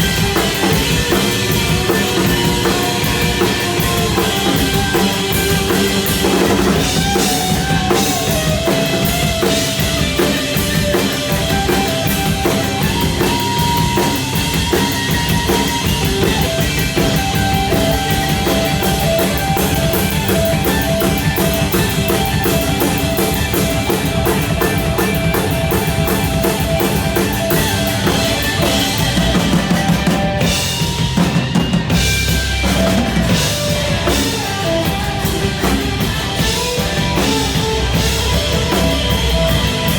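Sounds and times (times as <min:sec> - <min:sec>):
band playing instrumental: 0:00.0 - 0:39.9
drum kit beat: 0:00.0 - 0:39.9.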